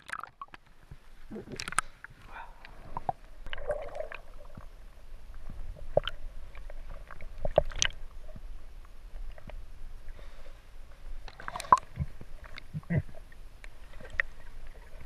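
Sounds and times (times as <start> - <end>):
underwater rumble of moving water: 0.0 - 15.0.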